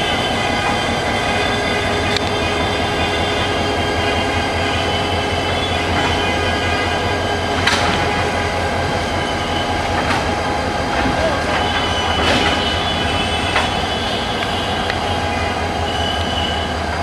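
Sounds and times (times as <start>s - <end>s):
diesel locomotive engine hum: 0.0s - 17.0s.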